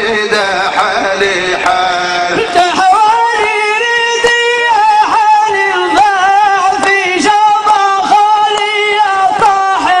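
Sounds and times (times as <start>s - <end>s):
man singing into microphone: 0.0s - 10.0s.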